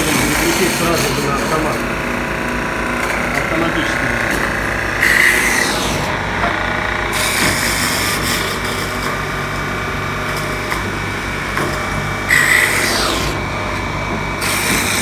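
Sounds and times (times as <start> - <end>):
woodworking machine motor hum: 0.0 - 15.0.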